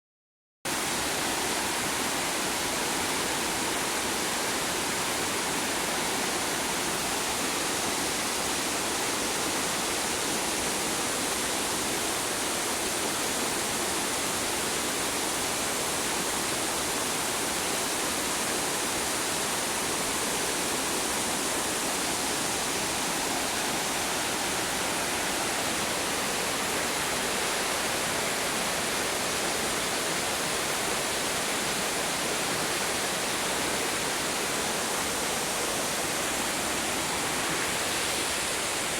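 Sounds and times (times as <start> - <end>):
rushing river water: 0.7 - 38.9.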